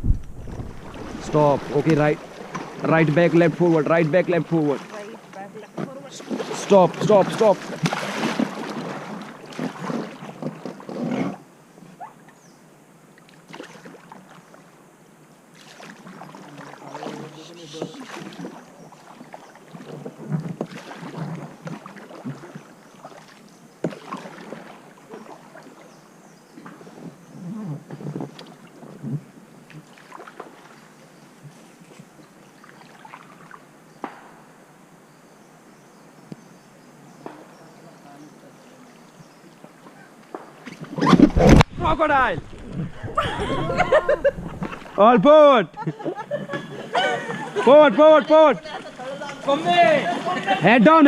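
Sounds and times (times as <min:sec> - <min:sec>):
river water rushing and splashing: 0:00.0 - 0:12.3, 0:13.0 - 0:26.2, 0:29.5 - 0:31.4, 0:32.0 - 0:33.8, 0:38.3 - 0:51.0
paddle splashes: 0:00.0 - 0:12.4, 0:13.2 - 0:14.7, 0:15.5 - 0:34.4, 0:37.2 - 0:51.0.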